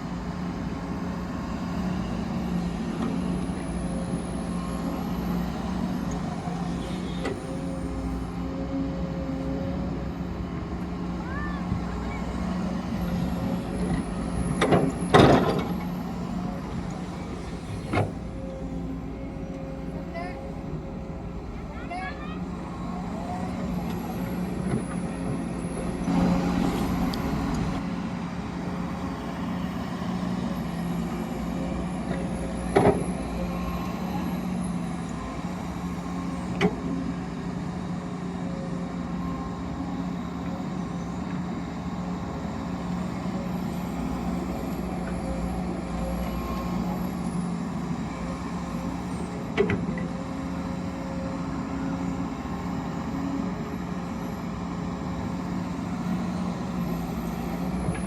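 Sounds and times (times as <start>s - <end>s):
heavy machinery engine hum: 0.0s - 58.0s.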